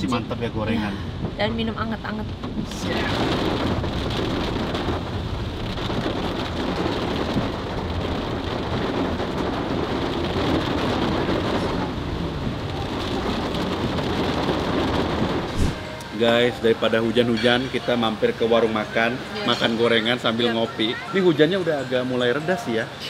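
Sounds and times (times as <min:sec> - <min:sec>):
heavy rain on car roof: 0:00.0 - 0:23.0.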